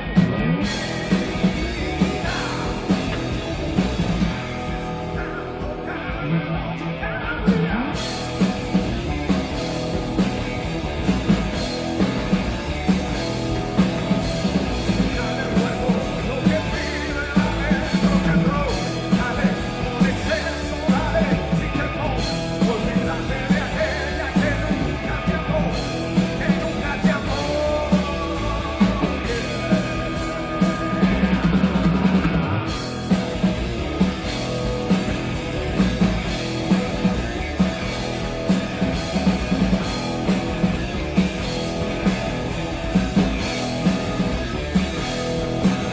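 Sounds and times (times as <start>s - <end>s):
drums driving beat: 0.0s - 6.7s, 7.4s - 45.9s
guitars: 0.0s - 45.9s
lead vocal singing: 0.0s - 45.9s.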